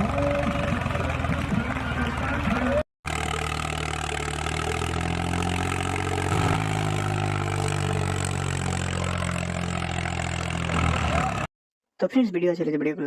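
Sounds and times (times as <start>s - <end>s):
engine idling: 0.0s - 11.5s.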